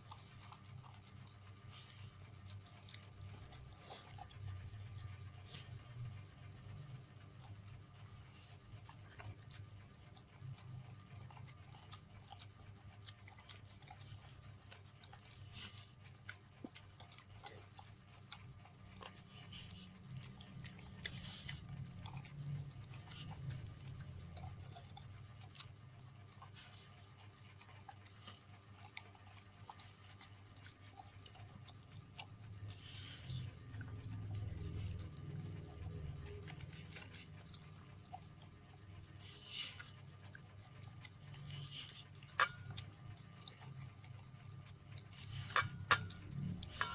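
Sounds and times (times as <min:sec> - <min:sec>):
dog chewing food: 0:00.0 - 0:46.9.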